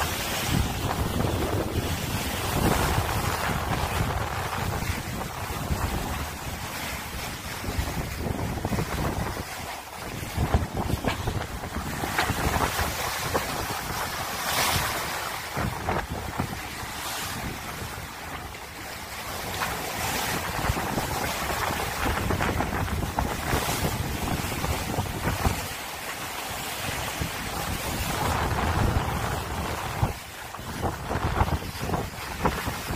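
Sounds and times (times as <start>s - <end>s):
wind buffeting microphone: 0.0s - 25.8s, 26.4s - 32.9s
water splashing along hull: 0.0s - 32.9s.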